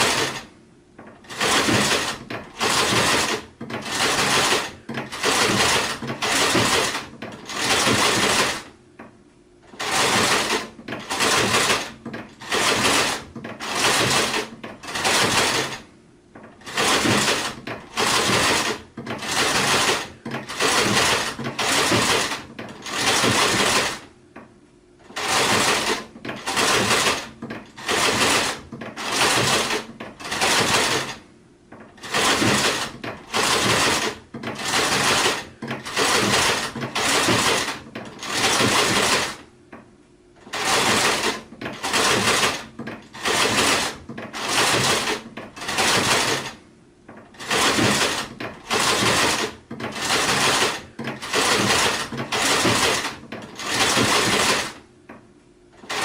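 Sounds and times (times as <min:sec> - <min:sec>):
sewing machine stitching: 0:00.0 - 0:08.8, 0:09.6 - 0:24.1, 0:25.0 - 0:39.5, 0:40.4 - 0:54.9, 0:55.8 - 0:56.0.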